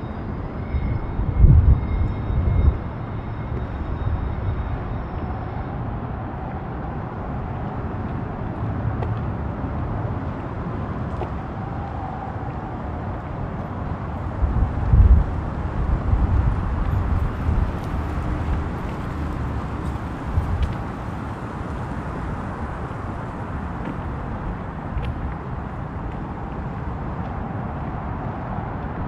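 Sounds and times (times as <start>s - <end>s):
distant road traffic rumble: 0.0s - 29.0s.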